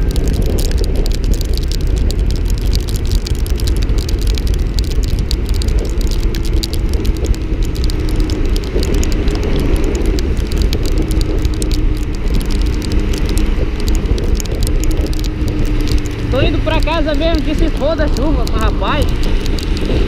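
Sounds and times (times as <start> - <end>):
motorcycle engine humming: 0.0 - 20.0
raindrops ticking on camera: 0.0 - 20.0
wind rush on microphone: 0.0 - 20.0.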